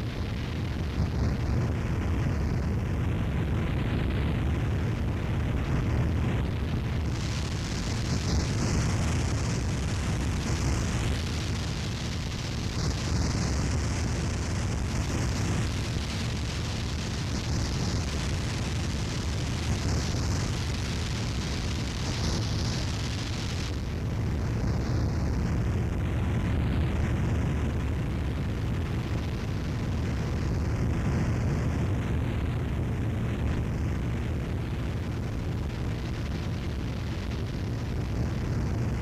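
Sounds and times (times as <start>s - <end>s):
dense distorted noise: 0.0s - 39.0s.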